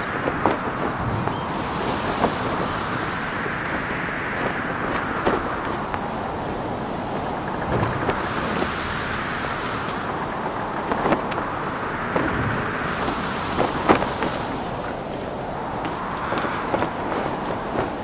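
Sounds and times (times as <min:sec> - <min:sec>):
rushing wind: 0:00.0 - 0:18.0.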